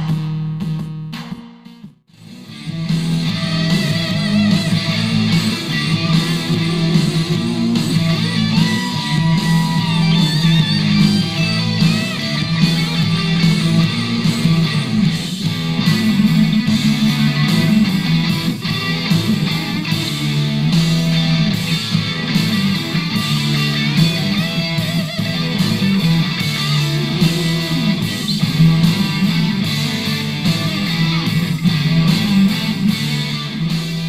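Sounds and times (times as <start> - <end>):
rock music through small speakers: 0.0 - 34.0.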